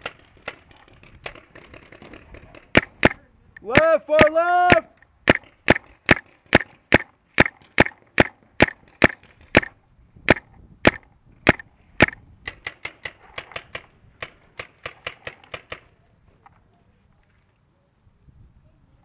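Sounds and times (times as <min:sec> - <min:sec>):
quieter rapid pops: 0:00.0 - 0:15.9
paintball marker shots: 0:00.0 - 0:16.0.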